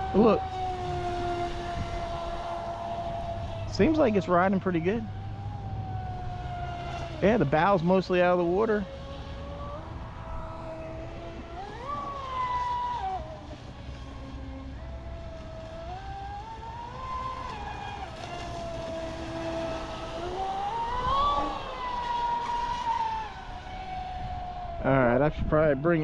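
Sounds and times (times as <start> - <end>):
electric motor and propeller whining: 0.0 - 26.0
low steady rumble: 0.0 - 26.0.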